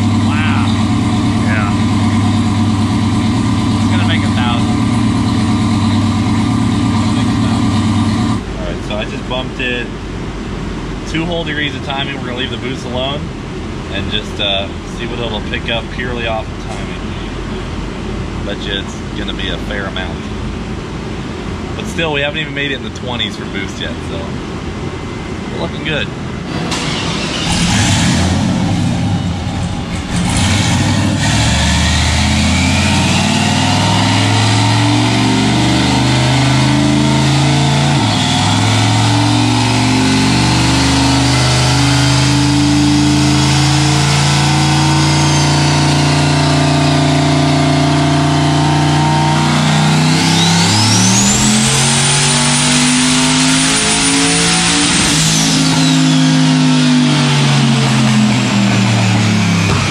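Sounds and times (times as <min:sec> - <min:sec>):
turbo whine: 0:00.0 - 0:17.8, 0:21.8 - 0:59.9
car engine on dyno: 0:00.0 - 0:59.9.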